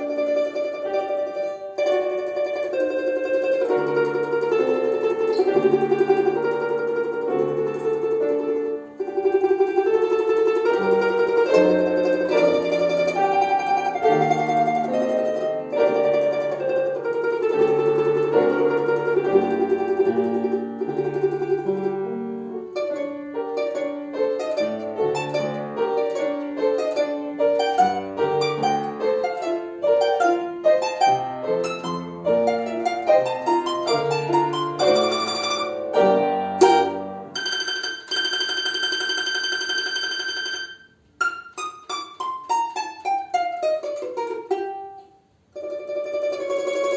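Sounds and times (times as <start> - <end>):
balalaika folk melody: 0.0 - 46.9.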